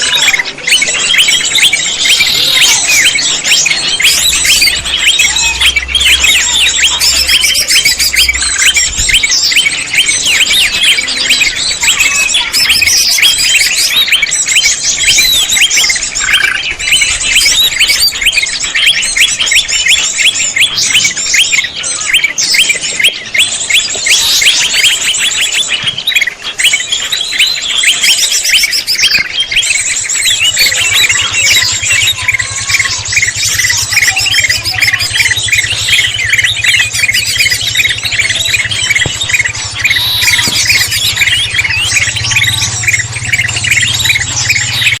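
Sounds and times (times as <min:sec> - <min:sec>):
bird chirps and twitters: 0:00.0 - 0:45.0.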